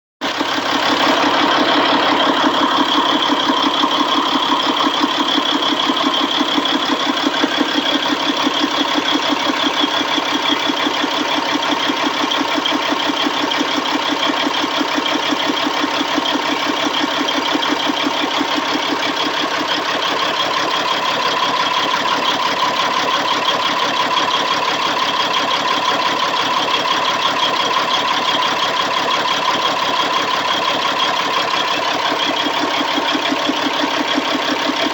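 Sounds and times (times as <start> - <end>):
engine idling roughly: 0.2 - 34.9.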